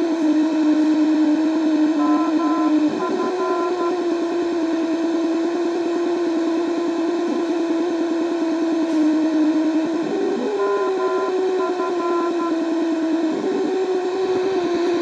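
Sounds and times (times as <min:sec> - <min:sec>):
pulsing low radio buzz: 0:00.0 - 0:15.0
radio static hiss: 0:00.0 - 0:15.0.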